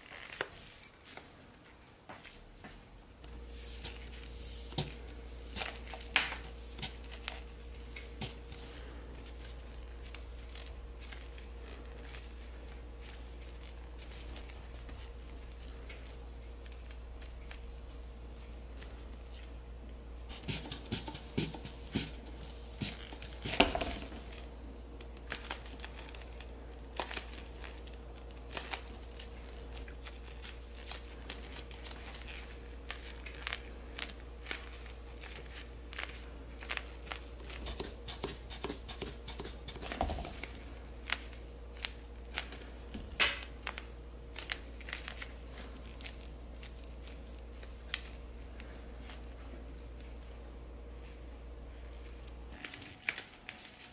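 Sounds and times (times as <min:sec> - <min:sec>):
faint steady hum: 0:00.0 - 0:53.9
sugar dough crinkling clicks: 0:04.8 - 0:08.5, 0:09.2 - 0:21.5, 0:22.8 - 0:50.4.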